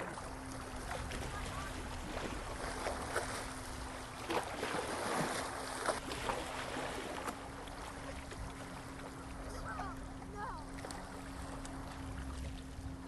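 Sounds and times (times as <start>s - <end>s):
faint steady hum: 0.0s - 13.0s
seawater sloshing and splashing: 0.0s - 13.0s.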